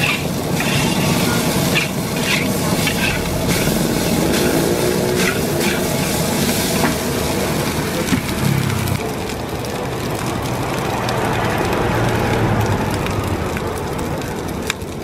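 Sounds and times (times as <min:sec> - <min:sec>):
rice sizzling in a wok: 0:00.0 - 0:15.0
wok burner roaring: 0:00.0 - 0:15.0.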